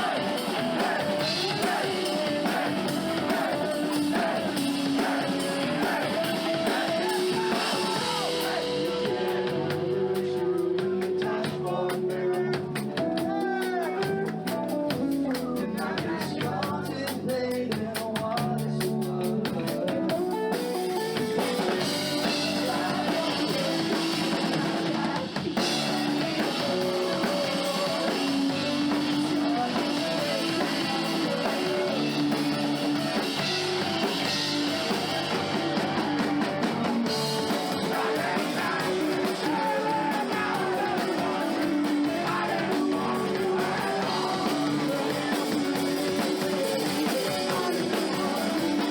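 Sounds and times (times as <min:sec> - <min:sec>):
drums beating on cymbals: 0:00.0 - 0:48.9
live rock band playing: 0:00.0 - 0:48.9.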